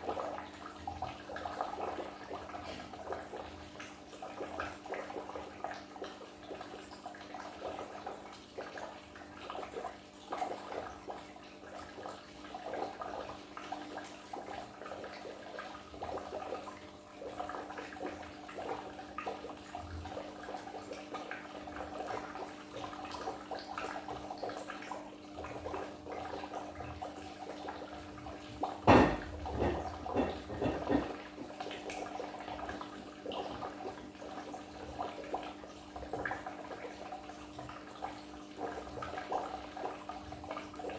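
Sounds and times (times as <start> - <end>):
aquarium water bubbling: 0.0 - 40.9.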